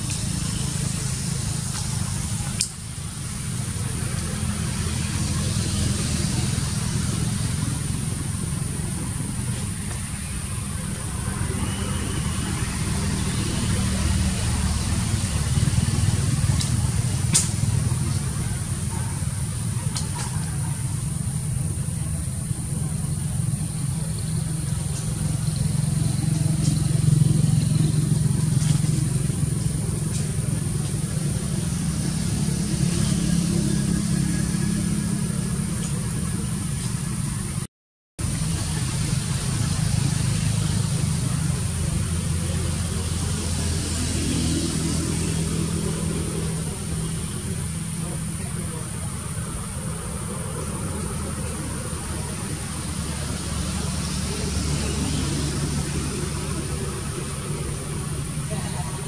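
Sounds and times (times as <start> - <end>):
constant high hiss: 0.0 - 59.0.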